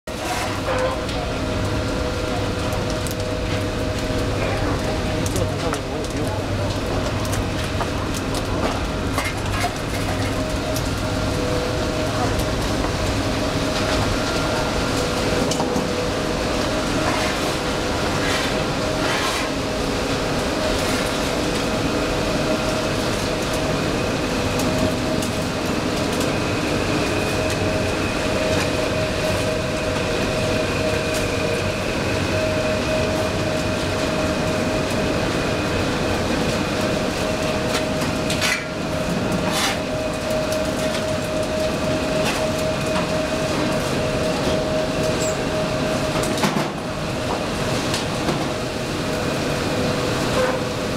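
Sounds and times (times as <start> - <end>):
machinery rumbling with hum: 0.1 - 50.9.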